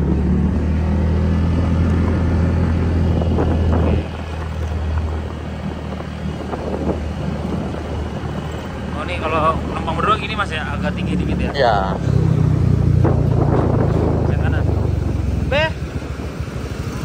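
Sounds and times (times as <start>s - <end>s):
scooter engine humming: 0.0s - 17.0s.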